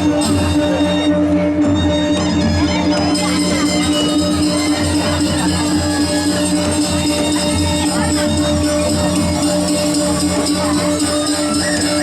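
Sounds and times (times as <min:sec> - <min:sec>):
gamelan music: 0:00.0 - 0:12.0.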